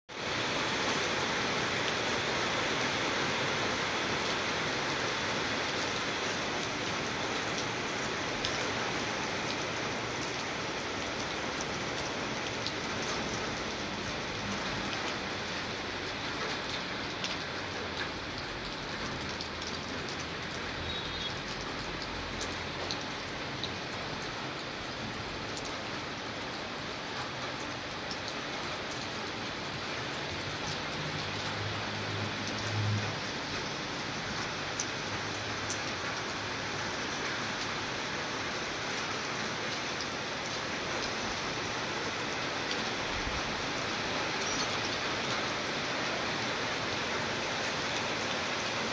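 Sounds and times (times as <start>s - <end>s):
steady rain falling: 0.1s - 48.9s.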